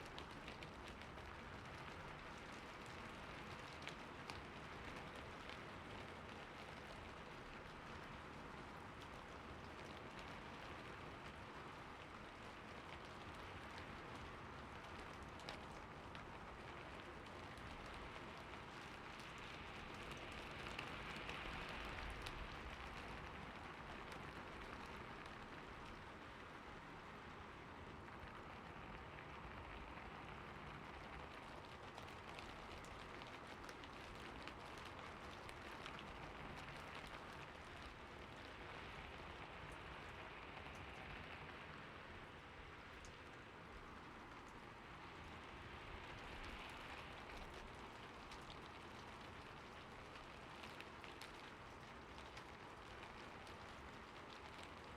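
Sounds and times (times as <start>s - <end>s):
gentle rain falling: 0.0s - 54.9s.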